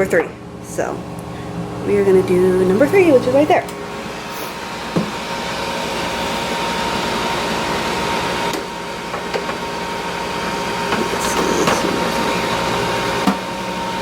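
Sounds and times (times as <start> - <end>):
oven fan whooshing hum: 0.0 - 14.0.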